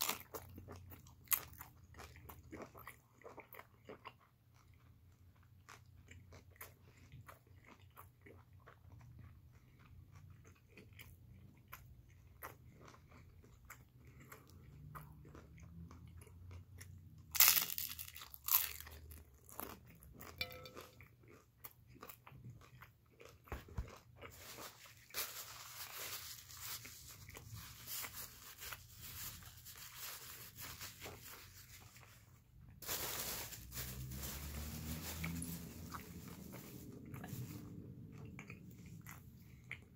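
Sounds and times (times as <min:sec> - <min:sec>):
person chewing crunchy food: 0:00.0 - 0:29.9, 0:34.0 - 0:39.9.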